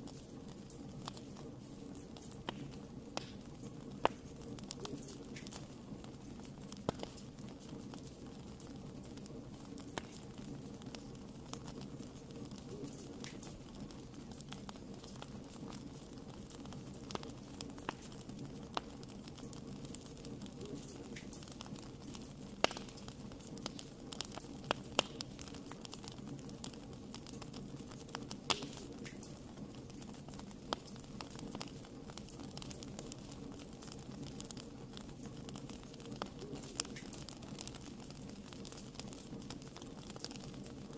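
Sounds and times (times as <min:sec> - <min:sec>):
fire crackles and pops: 0:00.0 - 0:40.9.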